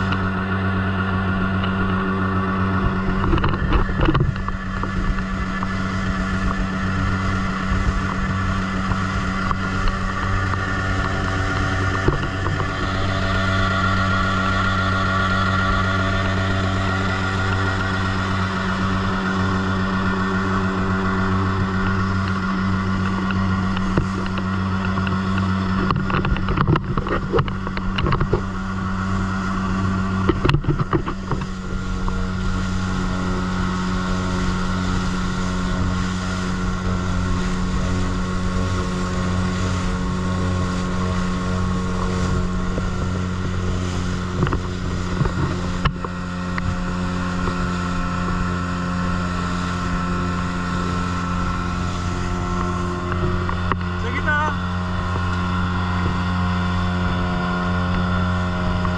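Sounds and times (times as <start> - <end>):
motorboat engine droning: 0.0 - 58.9
water rushing along hull: 0.0 - 58.9
thumps and splashes: 1.1 - 58.9.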